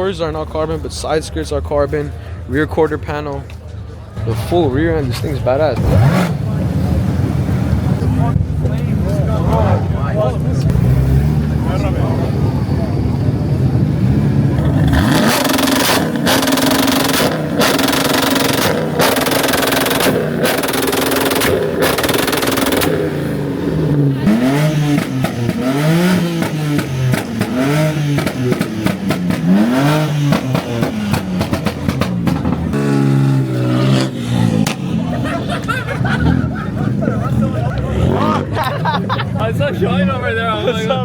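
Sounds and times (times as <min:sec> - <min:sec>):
car engine revving: 0:04.2 - 0:38.9.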